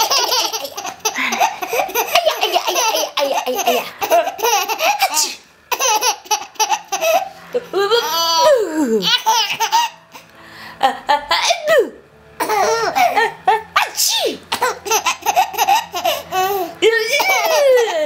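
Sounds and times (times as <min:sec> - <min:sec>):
baby laughing and squealing: 0:00.0 - 0:07.4, 0:08.0 - 0:10.0, 0:12.4 - 0:18.0.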